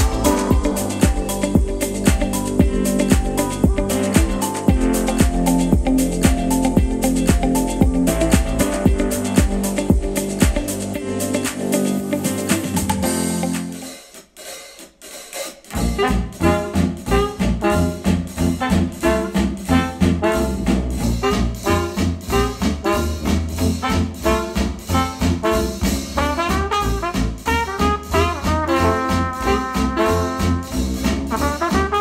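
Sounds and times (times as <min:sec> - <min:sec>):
jazz music with brass: 0:00.0 - 0:14.0, 0:15.7 - 0:32.0.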